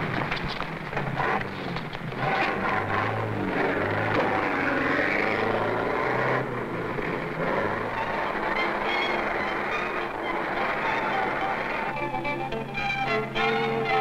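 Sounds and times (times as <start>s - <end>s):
car engine running: 0.0s - 14.0s
road noise: 0.0s - 14.0s.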